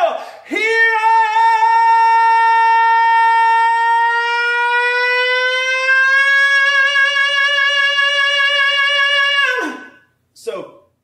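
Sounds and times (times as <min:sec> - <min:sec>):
man singing a cappella: 0:00.0 - 0:10.0.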